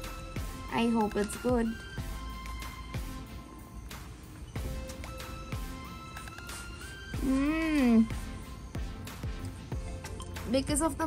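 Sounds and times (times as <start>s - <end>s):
low thumping beat: 0.0s - 11.0s
soft background music: 0.0s - 11.0s.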